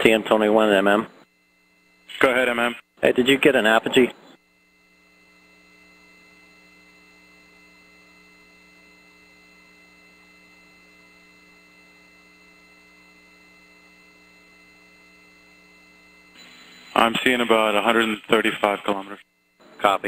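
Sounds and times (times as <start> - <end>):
steady electrical hum tones: 0.0 - 20.0.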